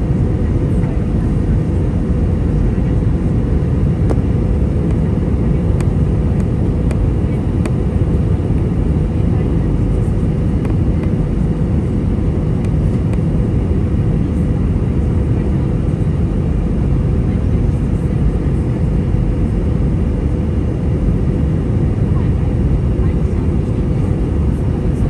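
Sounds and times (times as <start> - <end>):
jet engine drone: 0.0 - 25.0.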